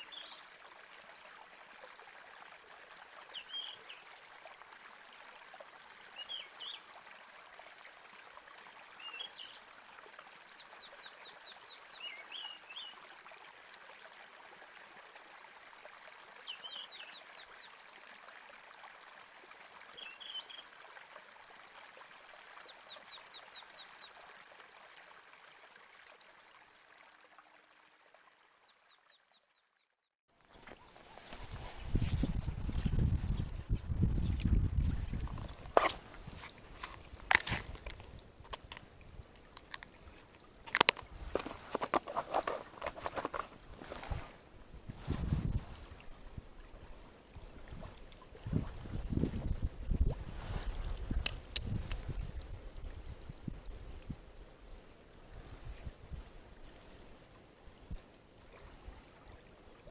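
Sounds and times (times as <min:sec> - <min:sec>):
running water: 0:00.0 - 0:29.6, 0:30.4 - 0:59.9.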